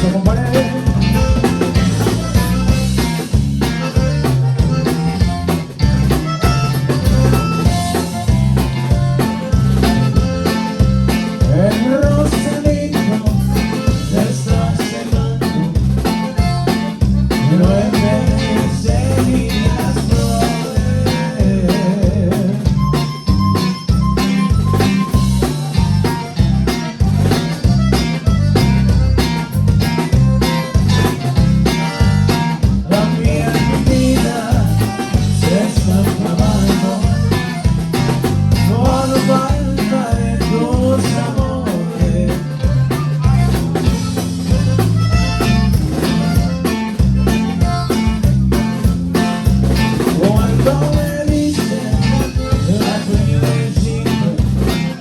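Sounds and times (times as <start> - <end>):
accordion lead: 0.0 - 55.0
band playing with steady beat: 0.0 - 55.0.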